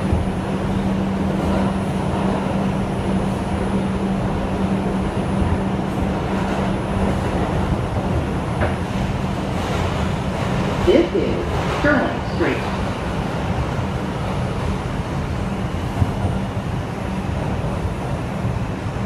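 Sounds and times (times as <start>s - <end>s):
subway car wheels rumbling: 0.0s - 19.0s.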